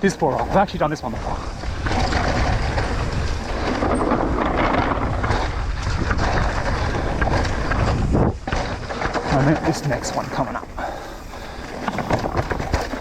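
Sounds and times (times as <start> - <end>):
bike tyres rumbling on dirt: 0.0 - 13.0
wind buffeting microphone: 0.0 - 13.0.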